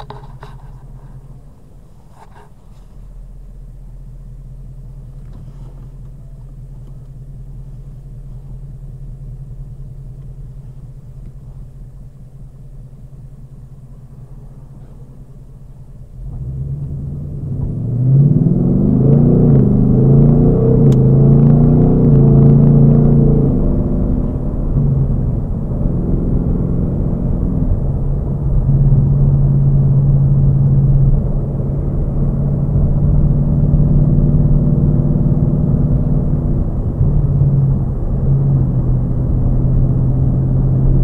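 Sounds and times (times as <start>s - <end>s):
car engine rumbling and accelerating: 0.0s - 41.0s.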